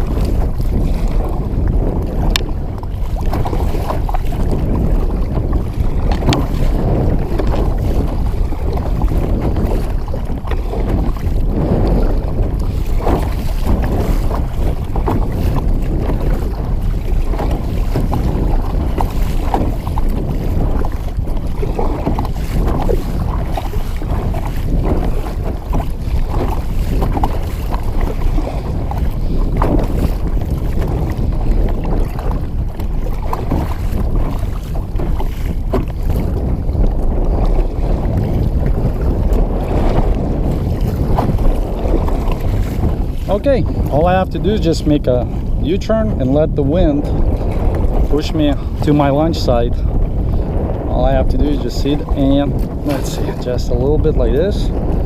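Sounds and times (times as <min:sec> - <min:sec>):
water splashing against kayak: 0:00.0 - 0:55.0
wind buffeting microphone: 0:00.0 - 0:55.0.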